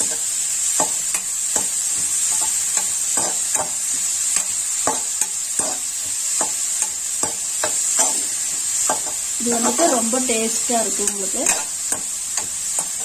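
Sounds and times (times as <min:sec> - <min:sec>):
spatula scraping and tapping pan: 0:00.0 - 0:10.2, 0:11.0 - 0:13.0
leaves sizzling in hot oil: 0:00.0 - 0:13.0.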